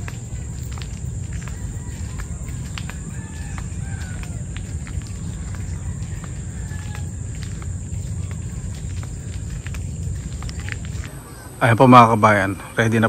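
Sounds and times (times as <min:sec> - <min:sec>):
low rumble: 0:00.0 - 0:11.2
birds chirping: 0:00.0 - 0:13.0.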